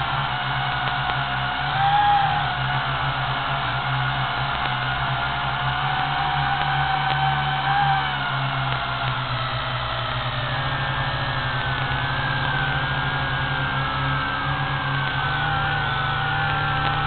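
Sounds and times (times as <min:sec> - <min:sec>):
quadcopter propellers whirring: 0:00.0 - 0:17.0.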